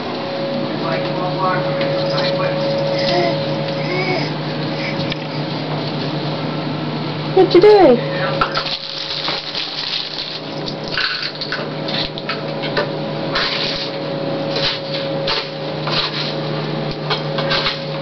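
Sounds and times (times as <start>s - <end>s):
steady hum and hiss: 0.0s - 18.0s.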